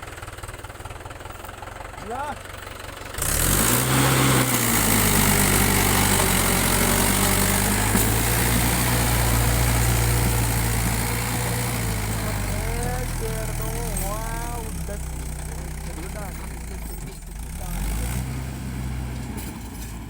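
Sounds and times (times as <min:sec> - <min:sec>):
tractor engine revving: 0:00.0 - 0:20.0.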